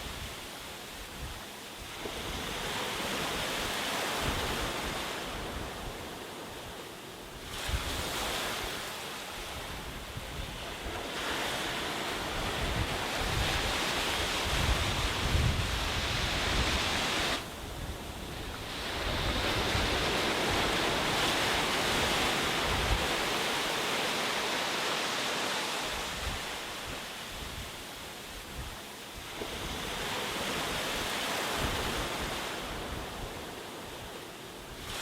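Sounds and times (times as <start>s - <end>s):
wind rumbling on microphone: 0.0s - 24.0s, 25.6s - 35.0s
sea waves breaking: 0.0s - 35.0s.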